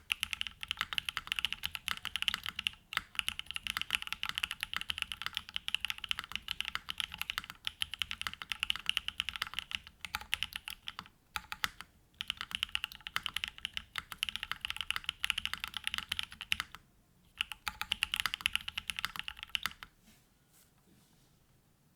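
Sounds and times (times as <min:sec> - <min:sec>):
fast typing on mechanical keyboard: 0:00.0 - 0:16.8, 0:17.4 - 0:19.9.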